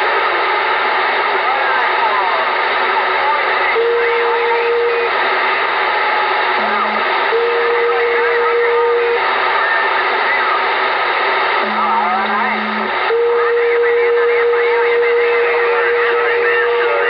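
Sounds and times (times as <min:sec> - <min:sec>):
faint garbled distant voices: 0:00.0 - 0:17.0
radio band noise hissing: 0:00.0 - 0:17.0.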